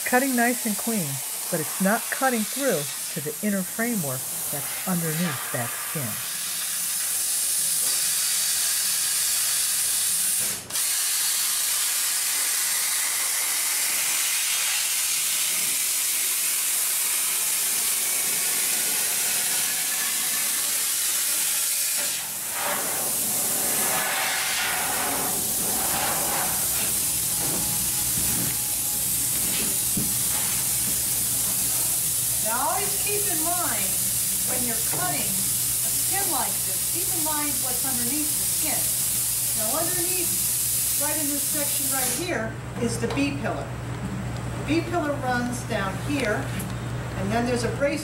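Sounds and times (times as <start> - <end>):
plasma cutter hissing: 0.0 - 42.2.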